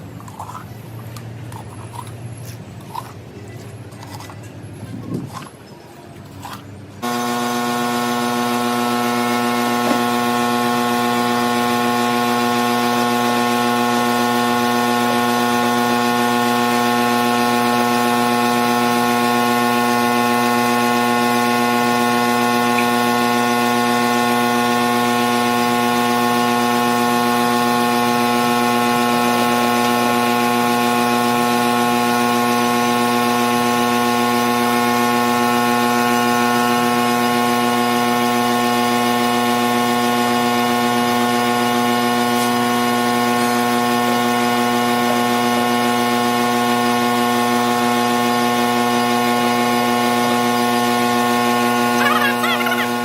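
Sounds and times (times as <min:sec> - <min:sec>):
machine motor hum: 0:00.0 - 0:53.0.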